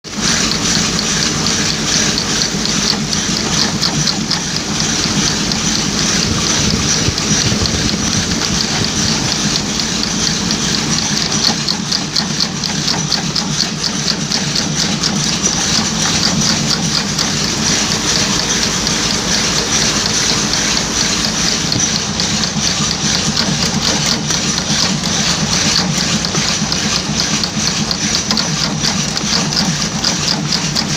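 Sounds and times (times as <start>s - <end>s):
machine clattering: 0.1s - 30.9s.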